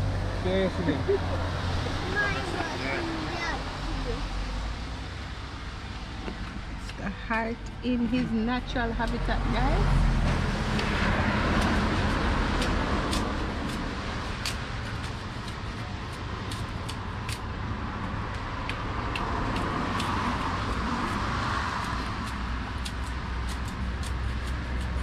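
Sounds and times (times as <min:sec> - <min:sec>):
passing vehicles rushing: 0:00.0 - 0:25.0.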